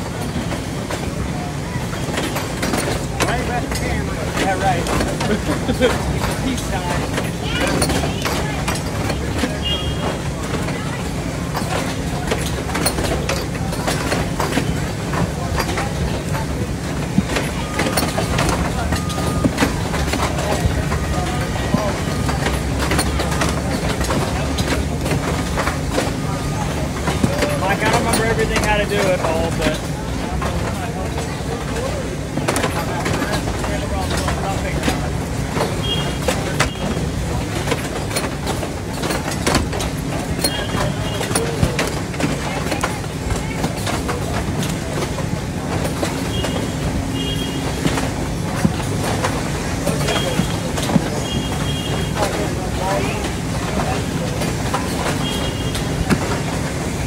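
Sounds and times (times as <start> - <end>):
factory machinery hum: 0.0 - 57.0
sharp clanks and knocks: 0.0 - 57.0.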